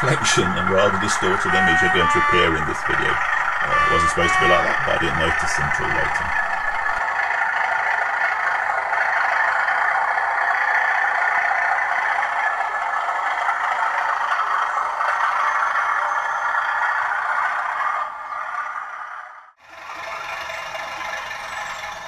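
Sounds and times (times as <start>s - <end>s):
model train whirring on rails: 0.0s - 22.0s.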